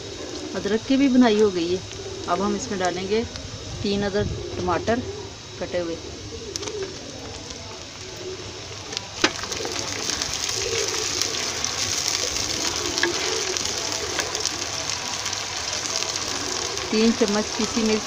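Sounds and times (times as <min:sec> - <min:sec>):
oil sizzling and crackling: 0:00.0 - 0:18.0
pigeon cooing: 0:00.0 - 0:18.0.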